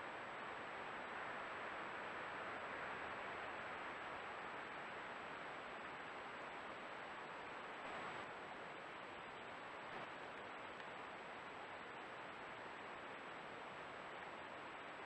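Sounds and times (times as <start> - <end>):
faint high whine: 0.0 - 15.0
microphone hiss: 0.0 - 15.0.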